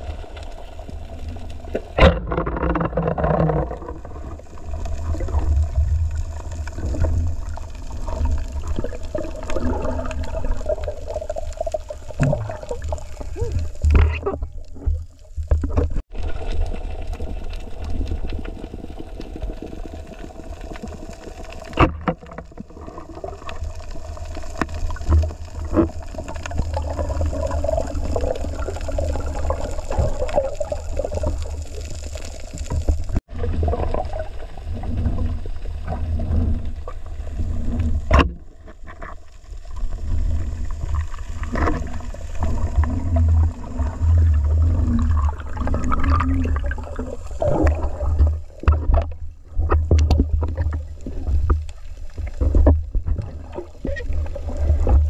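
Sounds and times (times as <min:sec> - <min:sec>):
underwater moving water rumble: 0:00.0 - 0:55.0
underwater knocks and clicks: 0:00.9 - 0:55.0.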